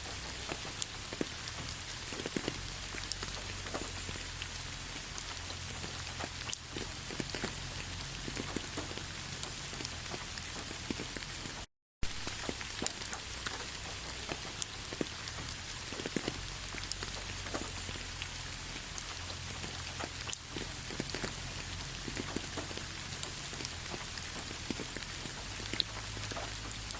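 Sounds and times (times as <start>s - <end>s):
steady rain falling: 0.0s - 26.9s
raindrops ticking sharply: 0.1s - 26.9s.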